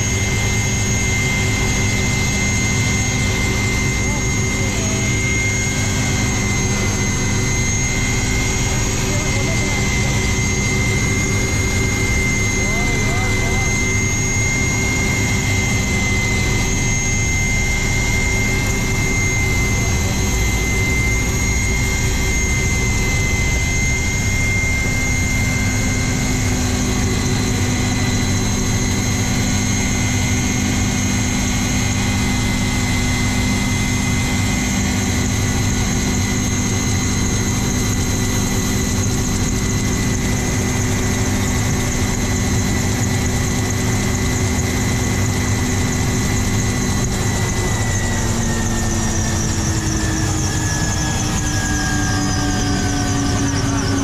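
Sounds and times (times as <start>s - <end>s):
helicopter rotor roar: 0.0s - 54.0s
helicopter turbine whine: 0.0s - 54.0s.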